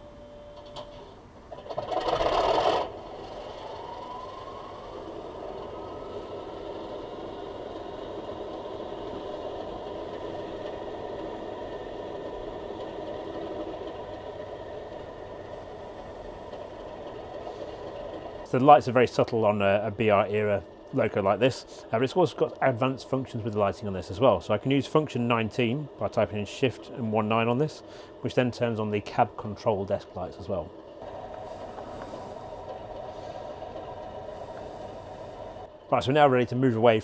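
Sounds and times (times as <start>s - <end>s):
turbo whine: 0.0s - 36.6s.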